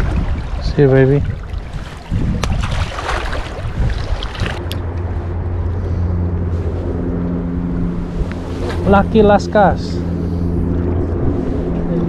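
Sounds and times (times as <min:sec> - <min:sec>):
wind on microphone: 0:00.0 - 0:05.6, 0:06.3 - 0:12.0
low engine hum: 0:00.0 - 0:12.0.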